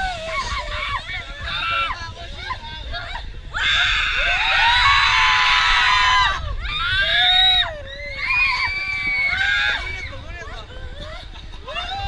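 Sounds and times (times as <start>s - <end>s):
riders screaming: 0.0s - 10.2s.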